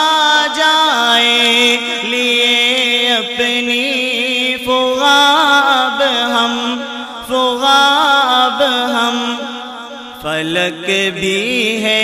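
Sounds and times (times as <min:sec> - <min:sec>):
man chanting into microphone: 0:00.0 - 0:12.0.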